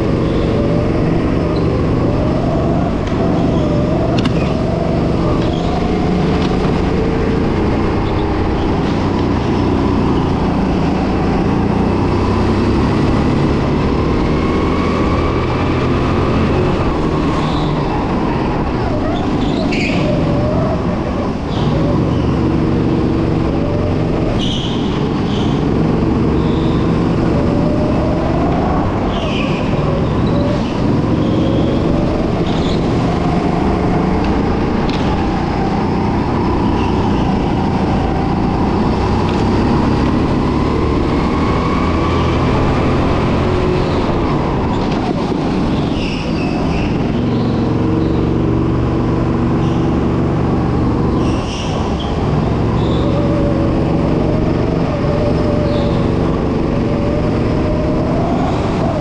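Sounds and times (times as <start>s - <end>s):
go-kart engines revving: 0.0s - 59.0s.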